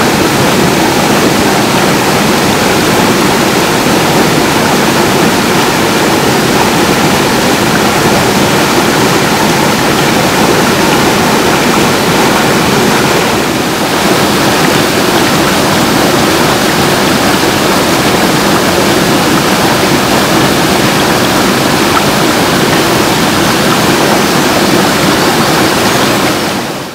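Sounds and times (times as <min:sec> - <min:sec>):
stream water running: 0:00.0 - 0:26.9.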